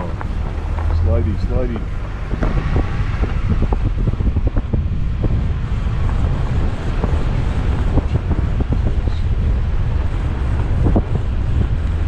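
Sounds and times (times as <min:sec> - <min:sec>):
car rumbling on snowy road: 0:00.0 - 0:12.0
wind buffeting microphone: 0:00.0 - 0:12.0.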